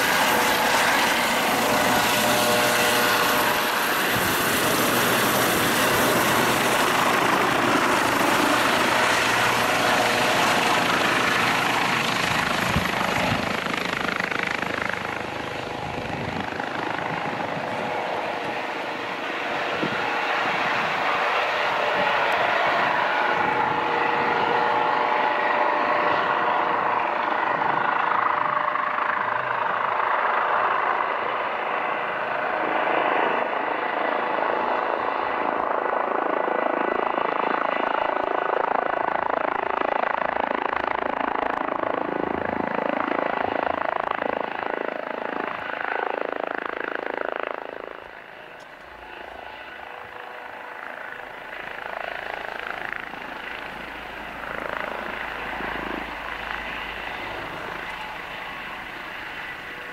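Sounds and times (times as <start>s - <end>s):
helicopter rotor and engines: 0.0s - 59.9s.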